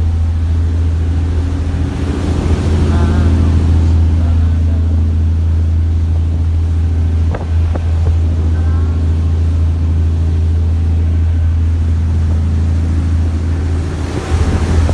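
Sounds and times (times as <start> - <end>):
ferry engine humming: 0.0 - 14.9.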